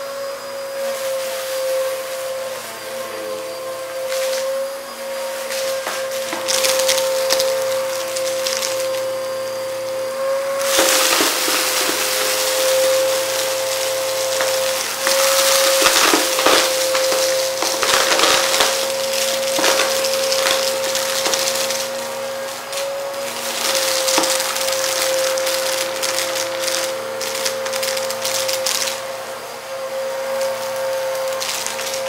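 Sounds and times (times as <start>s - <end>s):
vacuum cleaner motor whine: 0.0s - 32.0s
debris crackling up vacuum intake: 1.7s - 32.0s.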